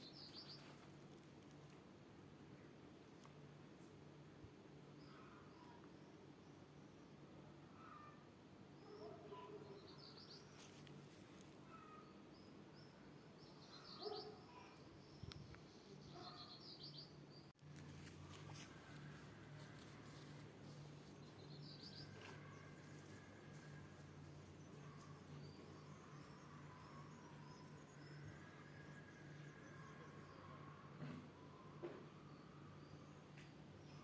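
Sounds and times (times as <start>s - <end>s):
faint birdsong chirps: 0.0s - 34.0s.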